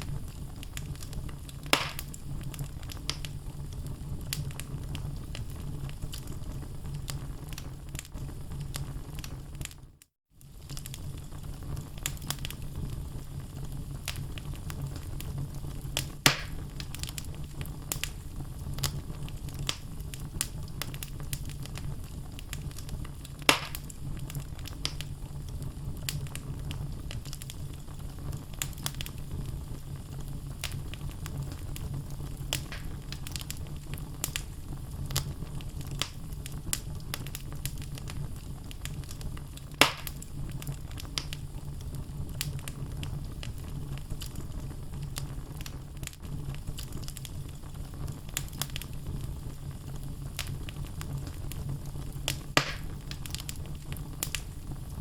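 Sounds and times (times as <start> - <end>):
logs crackling and popping: 0.0 - 55.0
wood fire rumbling: 0.0 - 55.0.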